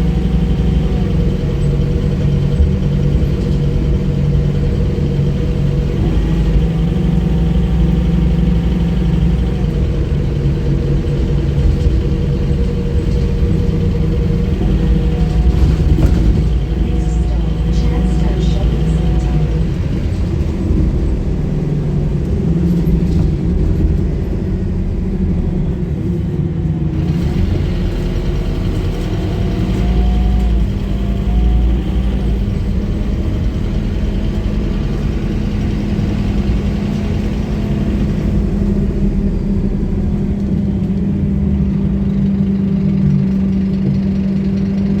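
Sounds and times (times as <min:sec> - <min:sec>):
diesel bus engine rumbling: 0:00.0 - 0:45.0.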